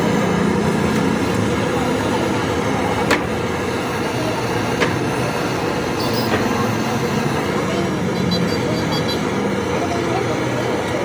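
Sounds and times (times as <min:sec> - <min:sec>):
motor vehicle noise: 0:00.0 - 0:11.0.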